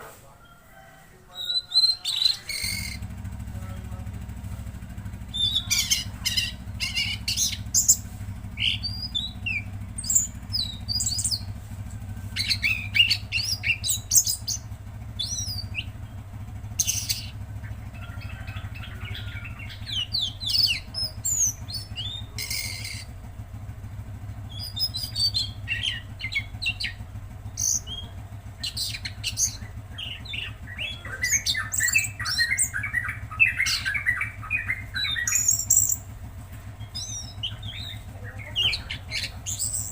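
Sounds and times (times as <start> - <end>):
songbird singing: 0.0 - 39.9
steady low hum: 1.3 - 39.9.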